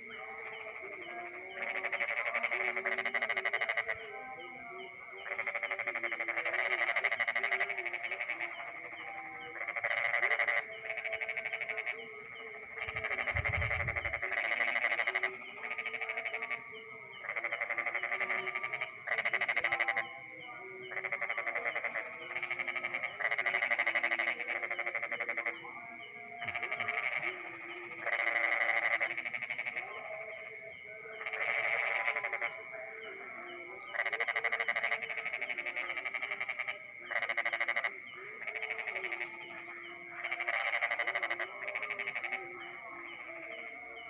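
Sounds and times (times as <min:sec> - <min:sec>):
frogs croaking: 0:00.0 - 0:44.0
insect trill: 0:00.0 - 0:44.0.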